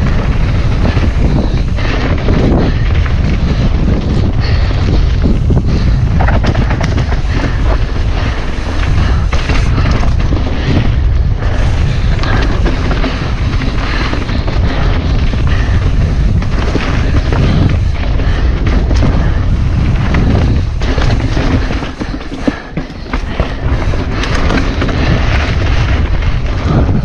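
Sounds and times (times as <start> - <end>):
bike knocks and rattles: 0.0 - 27.0
wind and trail buffeting rumble: 0.0 - 27.0.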